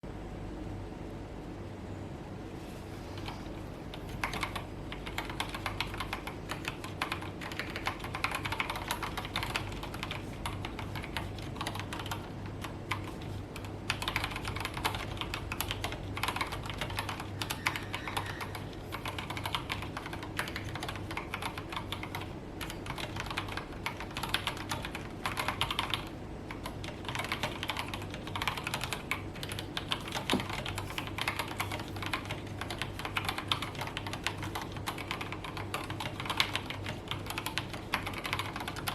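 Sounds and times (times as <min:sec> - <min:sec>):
mechanical keyboard typing: 0:03.2 - 0:38.9.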